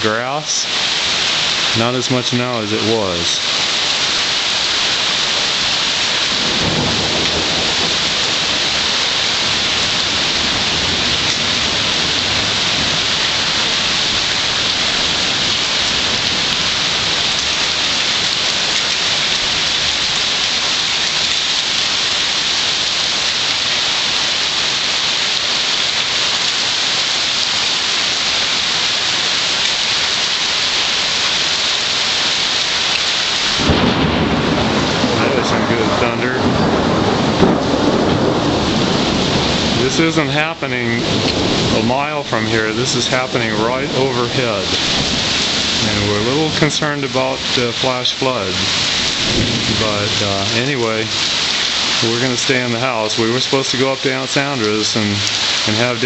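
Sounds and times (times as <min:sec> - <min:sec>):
thunder rumbling: 0:00.0 - 0:23.5, 0:33.3 - 0:56.0
heavy rain pouring: 0:00.0 - 0:56.0.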